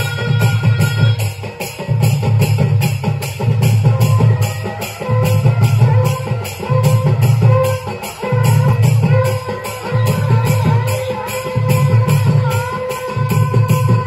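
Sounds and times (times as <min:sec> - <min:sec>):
drums beating a steady rhythm: 0:00.0 - 0:14.0
jingling percussion: 0:00.0 - 0:14.0.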